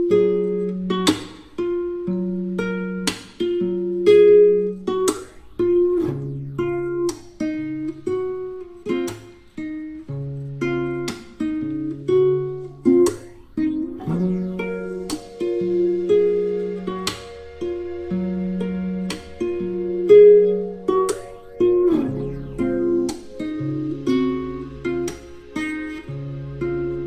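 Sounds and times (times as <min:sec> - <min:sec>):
plucked acoustic guitar melody: 0:00.0 - 0:27.0.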